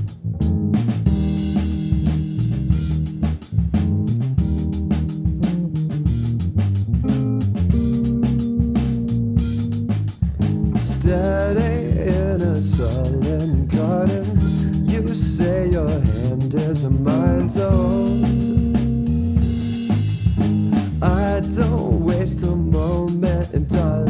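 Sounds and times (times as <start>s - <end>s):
song with guitar bass and drums: 0.0s - 24.0s.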